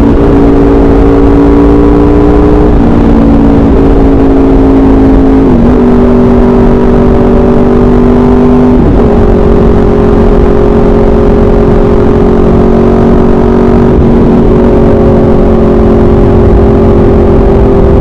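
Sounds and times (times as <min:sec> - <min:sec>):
motorcycle exhaust at steady revs: 0:00.0 - 0:18.0.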